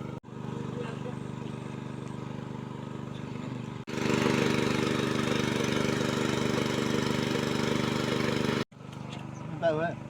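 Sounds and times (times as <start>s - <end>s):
small engine running: 0.0s - 9.3s.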